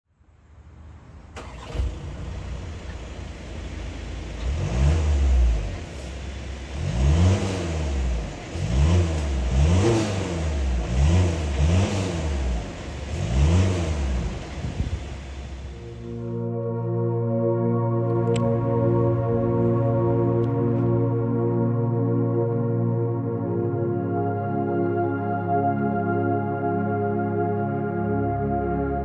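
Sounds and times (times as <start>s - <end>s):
car engine idling and revving: 0.2s - 24.6s.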